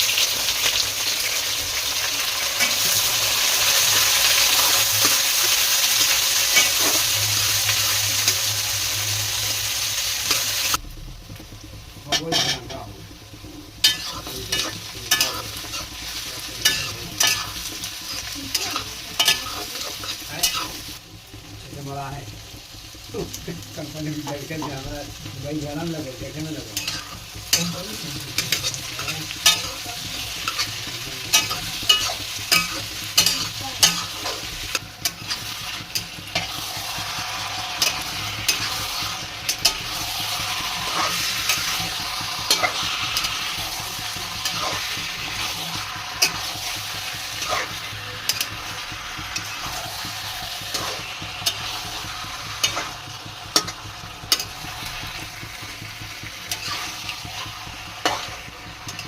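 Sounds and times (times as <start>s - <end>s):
food sizzling in oil: 0.0s - 59.0s
metal spatula scraping pan: 2.6s - 10.8s, 12.1s - 12.8s, 13.8s - 21.0s, 26.2s - 55.0s, 56.5s - 59.0s.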